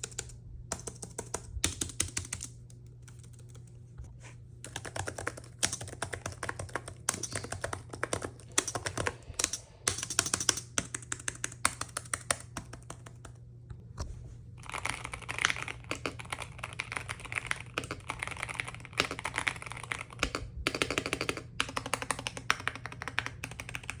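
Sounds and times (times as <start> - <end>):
laptop keyboard typing: 0.0 - 3.8, 4.6 - 13.4, 14.6 - 24.0
steady low hum: 0.0 - 24.0.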